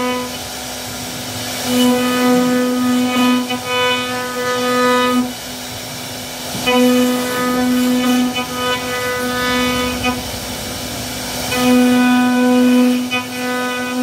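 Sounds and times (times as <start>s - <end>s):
router machine whine: 0.0s - 14.0s
rough wood cutting noise: 1.4s - 14.0s.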